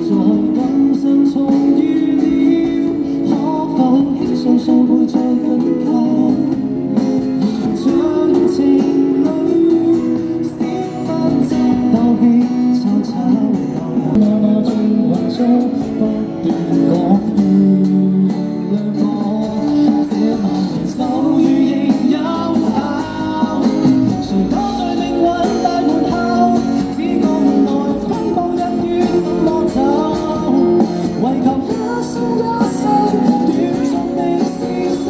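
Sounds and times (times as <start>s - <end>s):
band playing guitar-led instrumental: 0.0s - 35.0s.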